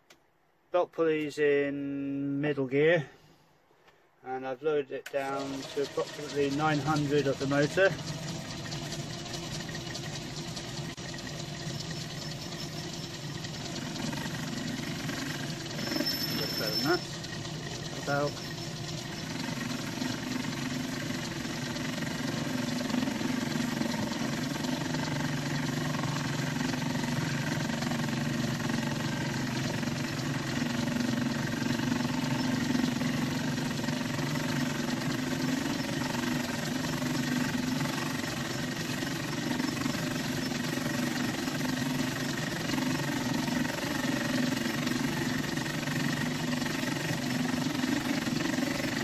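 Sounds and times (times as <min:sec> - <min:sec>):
lathe tool cutting metal: 0:05.2 - 0:49.0
metal lathe running: 0:05.2 - 0:49.0.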